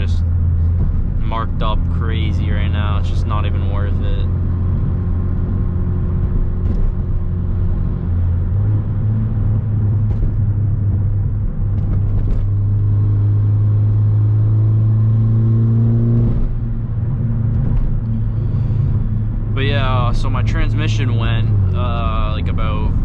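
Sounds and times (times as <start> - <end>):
car engine droning: 0.0 - 23.0
road noise inside car: 0.0 - 23.0.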